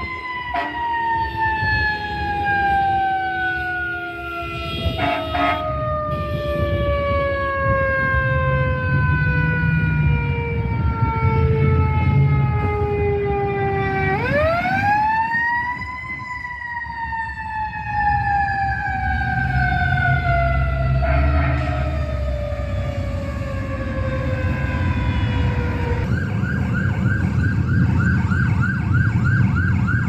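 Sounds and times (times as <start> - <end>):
fire truck siren wailing: 0.0 - 30.0
truck and traffic rumble: 0.0 - 30.0.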